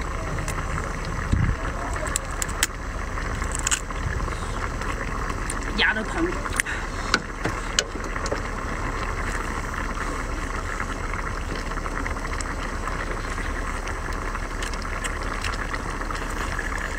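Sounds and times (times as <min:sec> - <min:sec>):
burner low rumble: 0:00.0 - 0:16.9
stew bubbling in a pan: 0:00.0 - 0:16.9.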